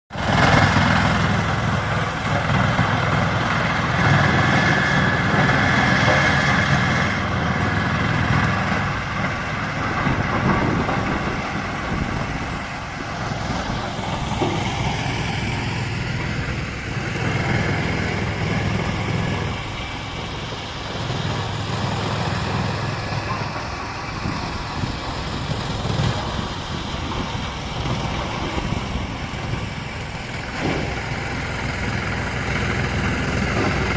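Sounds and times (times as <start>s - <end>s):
wood chipper running: 0.1s - 33.9s.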